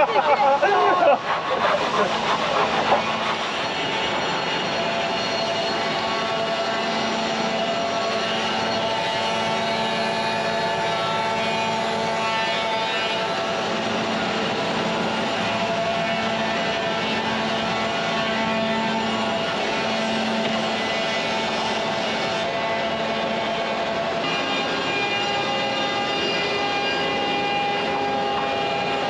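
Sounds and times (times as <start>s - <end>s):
mill machinery whirring drone: 0.0s - 29.0s.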